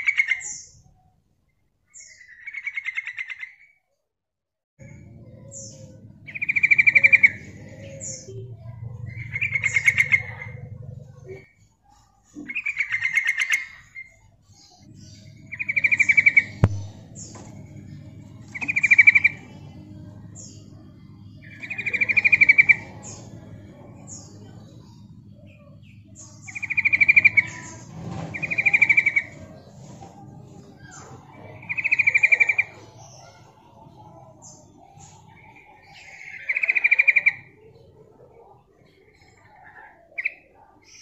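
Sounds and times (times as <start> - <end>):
faint low hum: 4.8 - 41.0.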